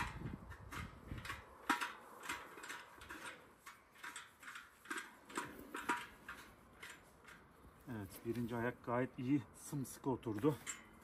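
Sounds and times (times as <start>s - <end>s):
metallic clicks and scrapes: 0.0s - 8.8s, 9.6s - 11.0s.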